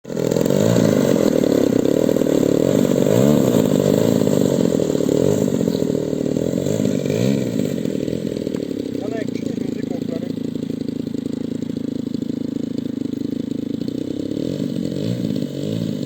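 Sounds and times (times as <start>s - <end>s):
model airplane engine running: 0.0s - 16.0s.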